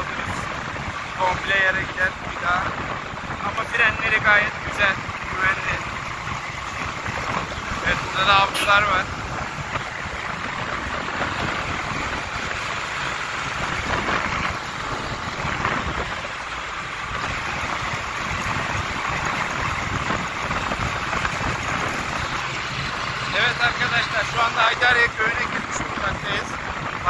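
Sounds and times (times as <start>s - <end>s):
wind on microphone: 0.0s - 23.4s
tractor diesel engine running: 0.0s - 26.9s.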